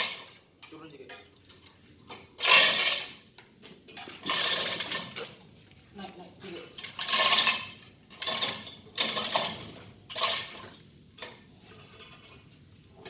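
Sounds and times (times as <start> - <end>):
metal tools scraping and clinking: 0.0 - 13.0.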